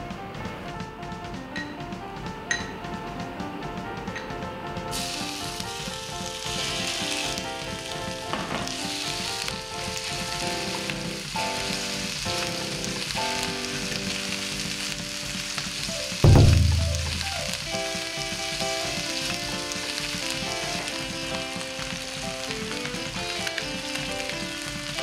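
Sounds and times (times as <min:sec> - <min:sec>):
background music: 0:00.0 - 0:25.0
food sizzling in a pan: 0:04.1 - 0:25.0.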